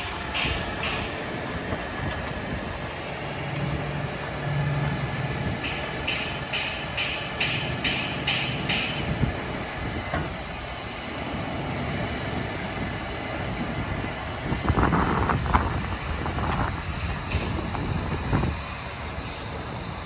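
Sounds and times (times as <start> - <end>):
diesel truck engine idling: 0.0 - 20.0
wind buffeting microphone: 0.0 - 20.0.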